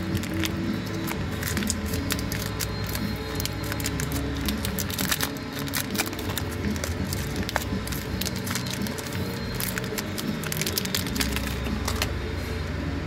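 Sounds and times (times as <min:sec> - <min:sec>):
plastic packaging crackling: 0:00.0 - 0:12.2
quiet music: 0:00.0 - 0:13.0.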